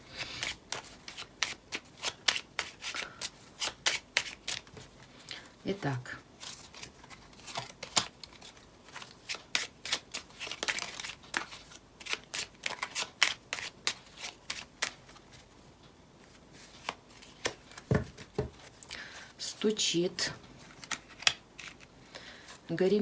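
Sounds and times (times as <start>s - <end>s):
cards being shuffled: 0.1s - 5.4s, 6.4s - 15.5s, 16.2s - 19.0s, 20.6s - 22.7s.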